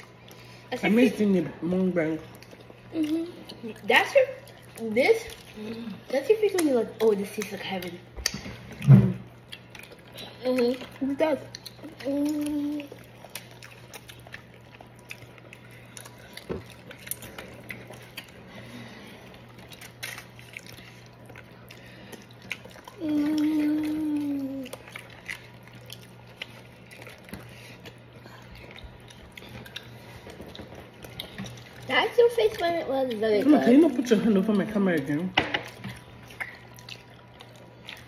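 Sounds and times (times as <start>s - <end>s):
low steady hum: 0.0s - 38.0s
chewing and lip smacks: 2.2s - 38.0s.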